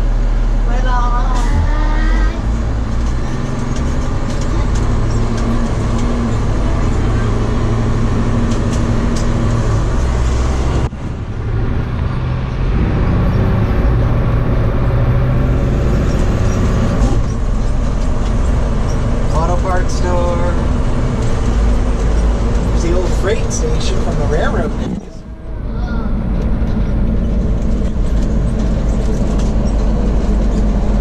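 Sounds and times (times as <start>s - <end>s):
road and tyre noise: 0.0s - 31.0s
truck engine running: 0.0s - 31.0s.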